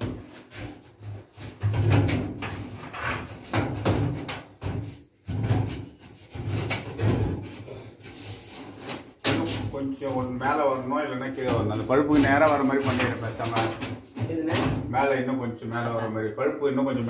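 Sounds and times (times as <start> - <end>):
aluminium duct pipe crinkling and scraping: 0.0 - 14.8.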